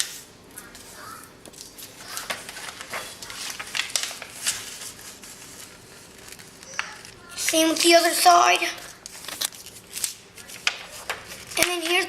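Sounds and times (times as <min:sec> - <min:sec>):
paper being folded and creased: 0:00.0 - 0:12.0.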